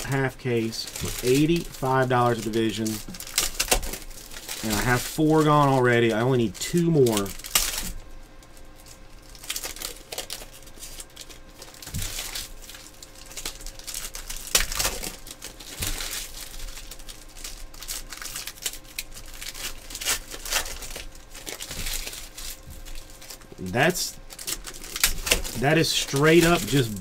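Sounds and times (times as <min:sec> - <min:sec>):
foil wrappers crinkling and tearing: 0:00.0 - 0:27.0.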